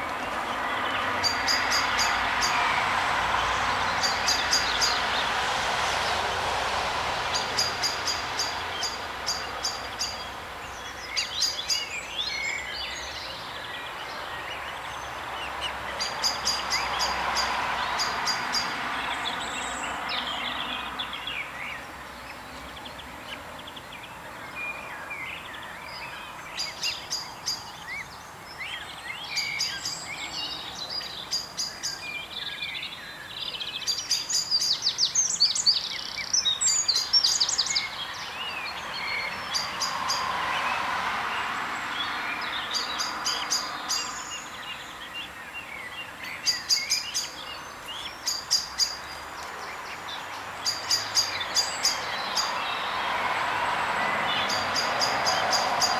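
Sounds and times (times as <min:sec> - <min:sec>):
small birds singing and chirping: 0:00.0 - 0:55.9.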